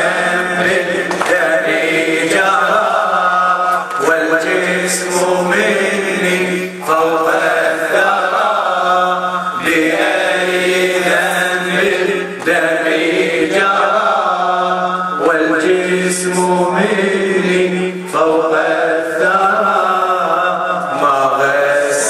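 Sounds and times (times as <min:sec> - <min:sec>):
men chanting a lament: 0:00.0 - 0:22.0
steady held drone: 0:00.0 - 0:22.0.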